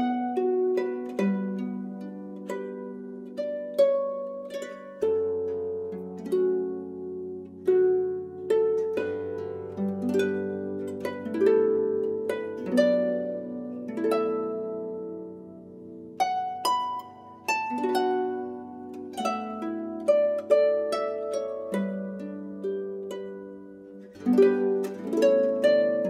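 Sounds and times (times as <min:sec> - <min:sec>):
plucked string melody: 0:00.0 - 0:26.0.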